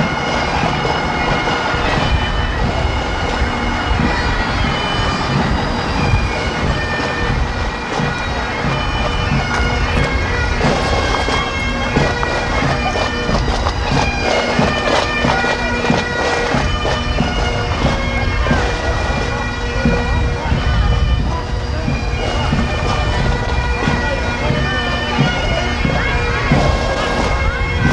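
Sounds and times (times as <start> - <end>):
bagpipes playing: 0.0 - 27.9
wind on microphone: 0.0 - 27.9.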